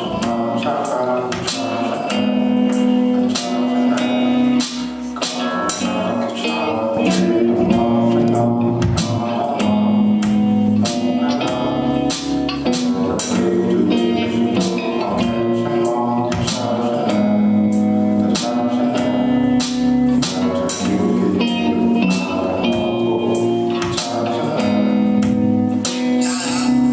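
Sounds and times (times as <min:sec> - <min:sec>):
band music: 0:00.0 - 0:26.9.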